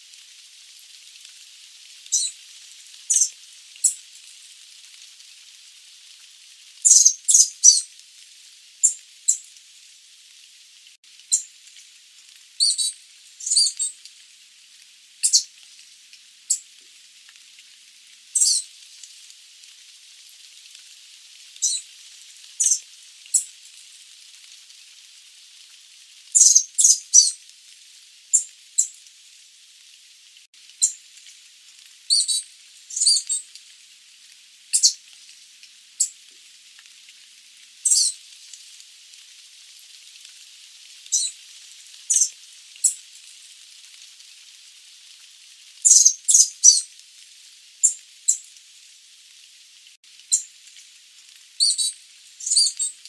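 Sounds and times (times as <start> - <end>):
steady high hiss: 0.0 - 53.0.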